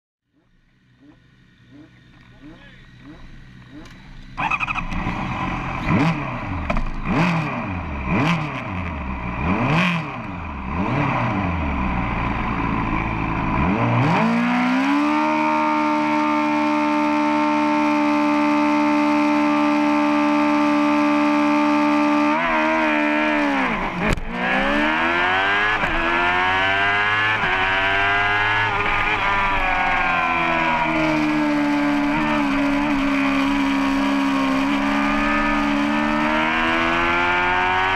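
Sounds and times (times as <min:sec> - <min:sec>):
motorcycle engine revving: 0:00.3 - 0:37.9.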